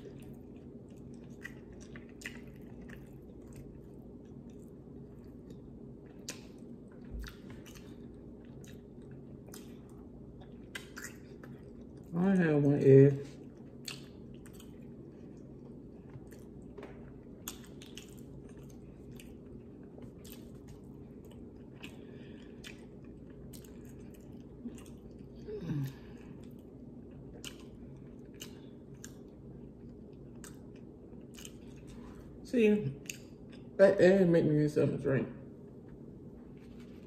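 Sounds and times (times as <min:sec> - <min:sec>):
wet chewing and mouth clicks: 0:00.0 - 0:12.1, 0:13.4 - 0:25.4, 0:26.1 - 0:32.2, 0:33.0 - 0:33.8
steady low hum: 0:00.0 - 0:37.0.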